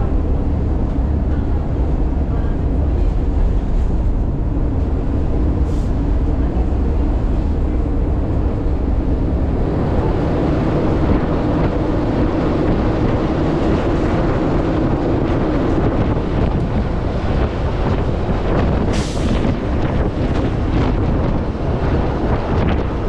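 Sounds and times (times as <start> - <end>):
bus engine and road rumble: 0.0 - 23.0
wind buffeting microphone: 0.0 - 23.0.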